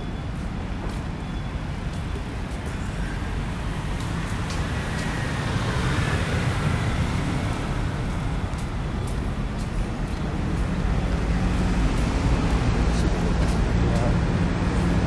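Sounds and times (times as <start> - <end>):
cars and scooters passing: 0.0 - 15.0.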